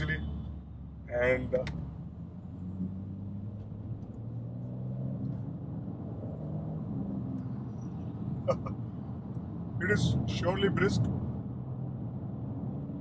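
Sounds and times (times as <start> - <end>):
car engine drone: 0.0 - 13.0
road rumble: 0.0 - 13.0.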